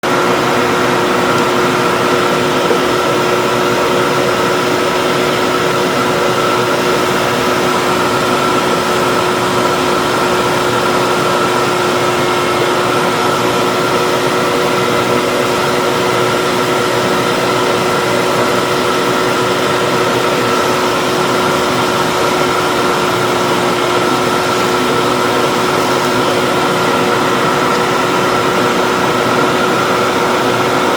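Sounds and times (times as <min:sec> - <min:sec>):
electric machine motor whining: 0:00.0 - 0:30.9.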